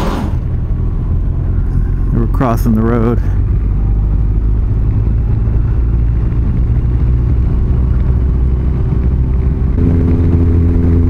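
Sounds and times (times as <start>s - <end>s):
motorcycle engine and road rumble: 0.0s - 11.0s.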